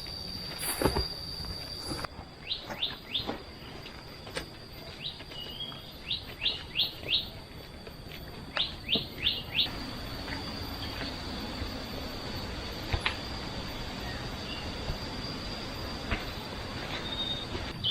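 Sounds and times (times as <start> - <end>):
faint steady high tone: 0.0 - 17.9.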